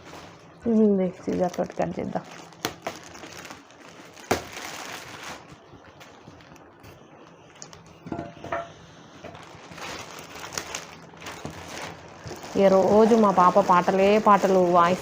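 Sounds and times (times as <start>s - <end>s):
packaging rustling: 0.0s - 8.0s, 9.2s - 15.0s.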